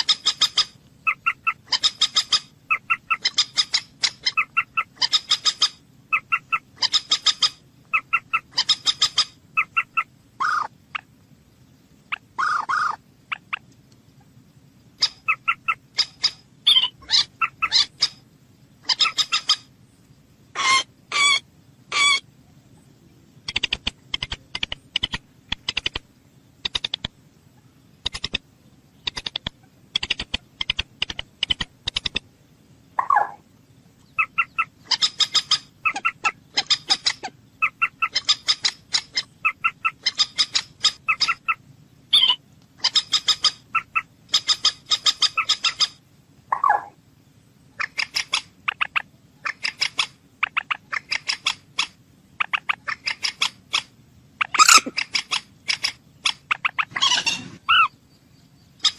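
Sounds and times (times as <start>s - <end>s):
bird calls: 0.0s - 11.2s, 12.0s - 32.3s, 32.9s - 58.9s.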